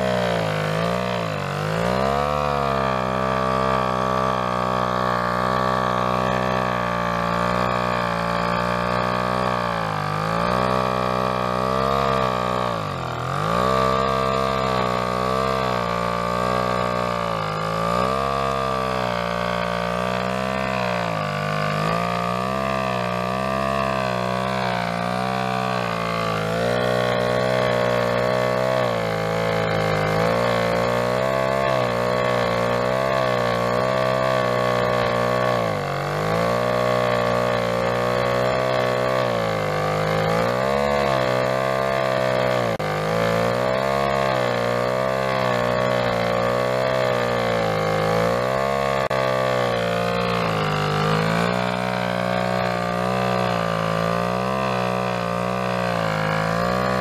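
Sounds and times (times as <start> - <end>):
small two-stroke engine running: 0.0 - 57.0.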